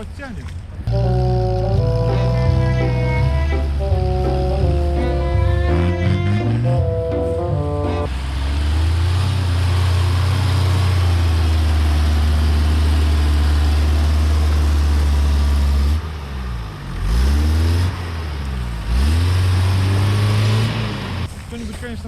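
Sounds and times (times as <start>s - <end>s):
car engine revving: 0.9s - 21.4s.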